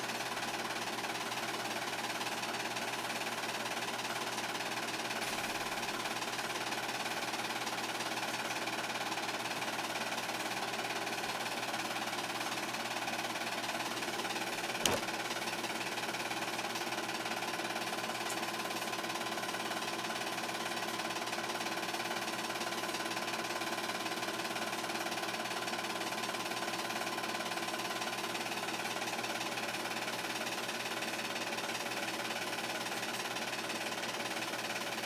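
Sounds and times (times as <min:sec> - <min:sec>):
film projector clattering: 0:00.0 - 0:35.0.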